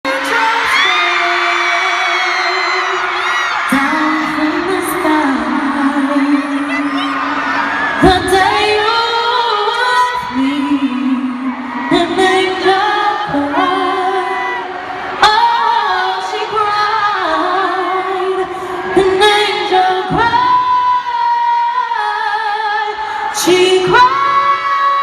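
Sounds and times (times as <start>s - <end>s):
vocal harmonies: 0.0s - 25.0s
woman singing: 0.0s - 25.0s.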